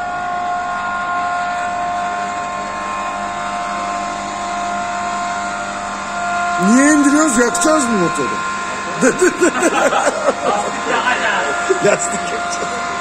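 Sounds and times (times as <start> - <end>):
electric lift motor whining: 0.2 - 13.0.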